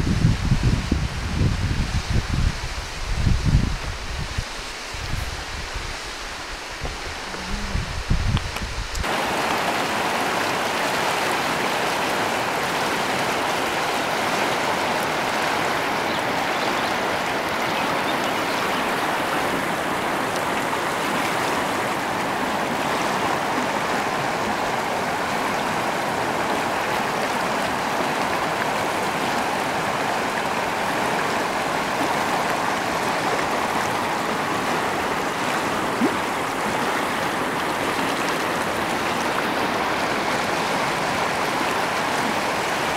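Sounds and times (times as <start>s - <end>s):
creek rushing over rocks: 0.6s - 42.9s.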